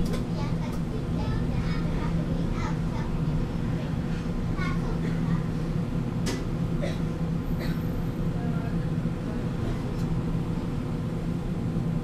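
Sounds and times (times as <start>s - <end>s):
tram interior hum: 0.0s - 12.0s.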